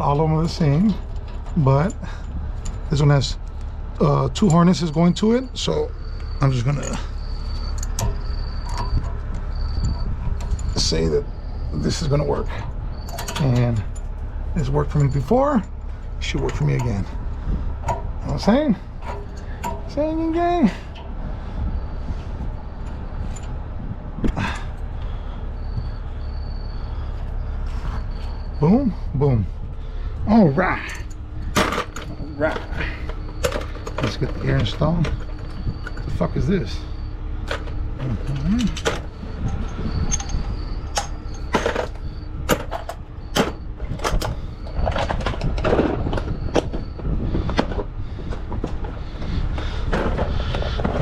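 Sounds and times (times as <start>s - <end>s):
metal parts clanking: 0.0s - 23.6s, 30.2s - 47.8s
faint high whine: 0.0s - 48.2s
low rumble: 0.0s - 51.0s
truck engine idling: 0.0s - 51.0s.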